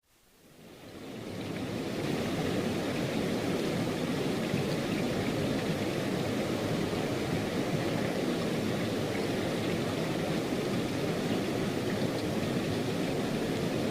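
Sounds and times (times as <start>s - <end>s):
steady rain hissing: 0.1s - 13.9s.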